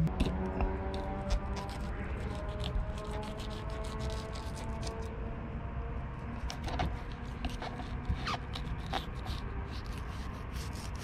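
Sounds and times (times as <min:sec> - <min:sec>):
knife scraping fish scales: 0:00.2 - 0:05.1, 0:06.4 - 0:11.0.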